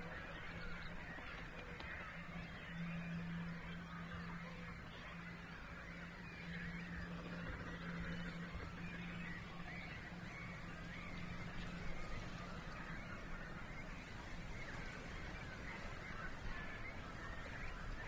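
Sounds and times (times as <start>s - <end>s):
birds chattering: 0.0s - 18.0s
distant man-made hum: 0.0s - 18.0s.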